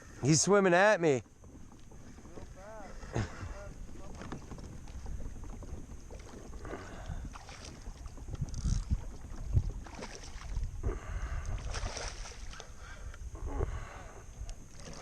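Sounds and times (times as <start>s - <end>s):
water splashing against kayak: 0.0s - 15.0s
wind buffeting microphone: 1.3s - 14.7s.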